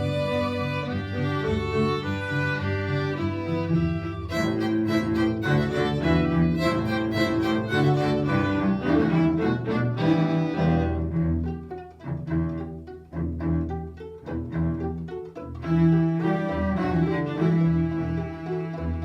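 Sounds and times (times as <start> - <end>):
string orchestra playing: 0.0 - 19.0.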